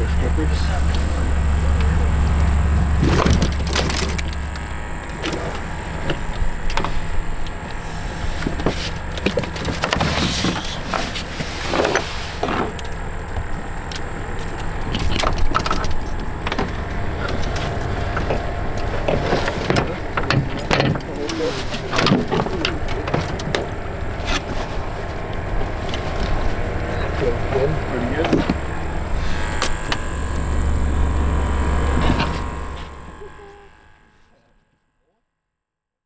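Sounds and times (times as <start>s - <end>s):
engine running at low speed: 0.0s - 34.6s
knocks and clatter of gear: 0.2s - 30.2s.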